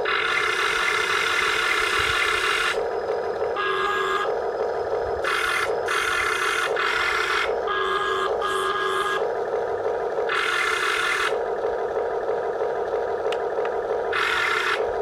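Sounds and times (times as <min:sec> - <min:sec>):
electric drive whine: 0:00.0 - 0:15.0.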